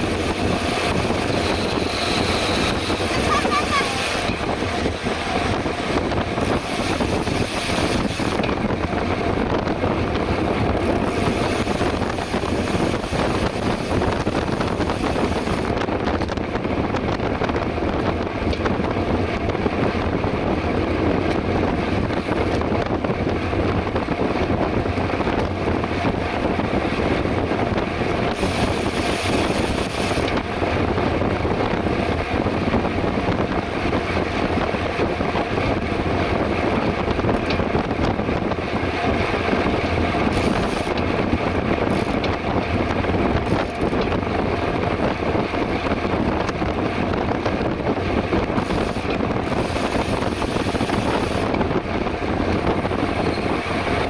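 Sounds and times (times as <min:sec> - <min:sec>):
bicycle tyre road noise: 0:00.0 - 0:54.0
wind rush on microphone: 0:00.0 - 0:54.0.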